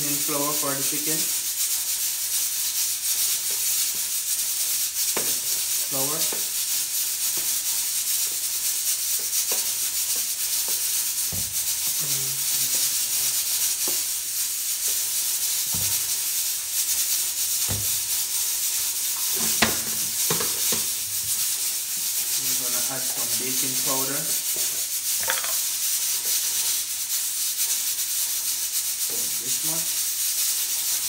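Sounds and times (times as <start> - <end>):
flour pouring hiss: 0.0 - 31.0.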